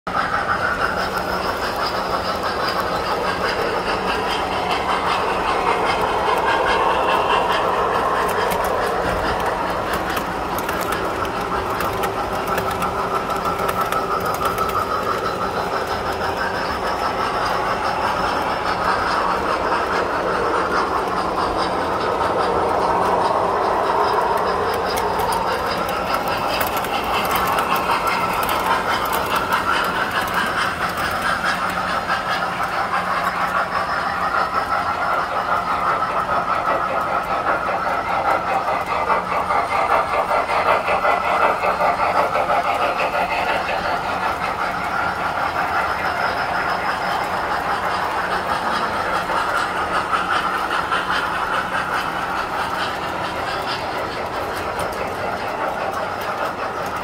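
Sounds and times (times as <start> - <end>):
model trains rolling on metal rails: 0.1 - 57.0.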